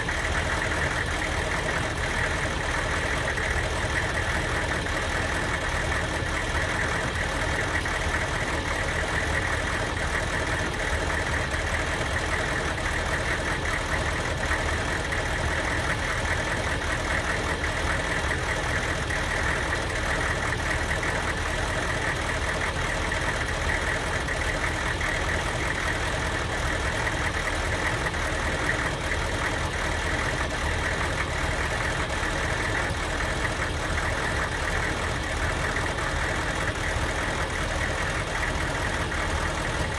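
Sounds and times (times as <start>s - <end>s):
diesel van engine idling: 0.0s - 39.9s.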